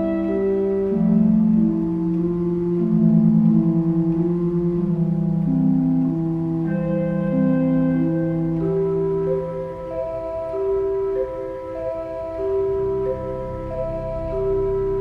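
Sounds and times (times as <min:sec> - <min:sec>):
slow organ chords: 0:00.0 - 0:15.0.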